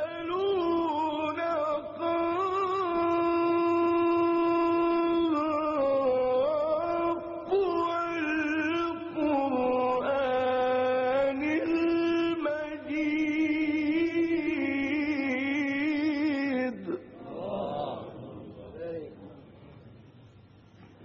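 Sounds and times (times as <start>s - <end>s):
man reciting melodically: 0.0s - 19.6s.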